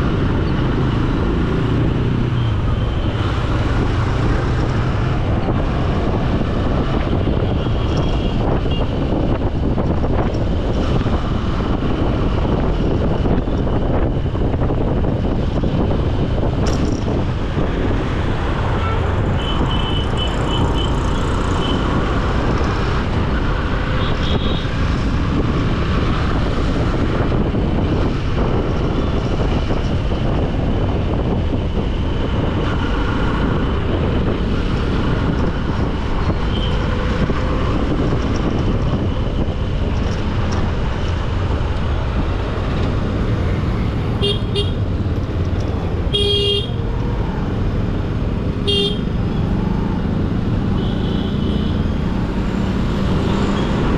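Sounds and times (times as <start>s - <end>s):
road traffic noise: 0.0s - 53.9s
wind rumble on microphone: 0.0s - 53.9s.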